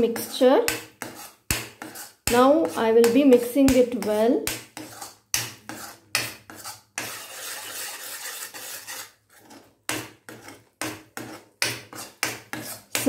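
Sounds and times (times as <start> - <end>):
metal spoon scraping a pan: 0.0 - 13.0.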